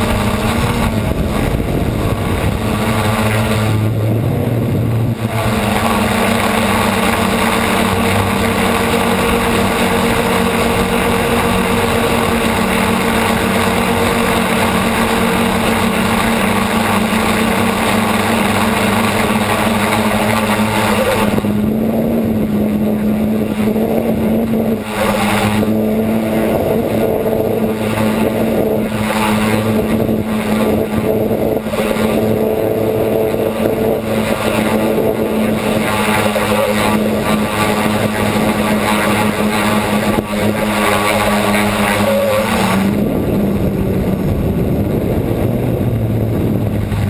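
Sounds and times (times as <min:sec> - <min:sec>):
model aircraft motor drone: 0:00.0 - 0:47.0.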